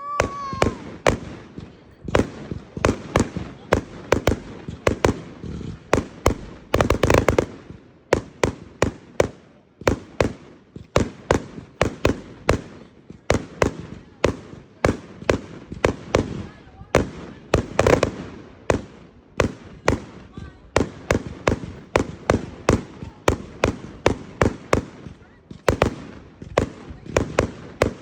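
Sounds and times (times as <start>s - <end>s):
firework cake bangs: 0.0s - 28.0s
firework crackling: 0.0s - 28.0s.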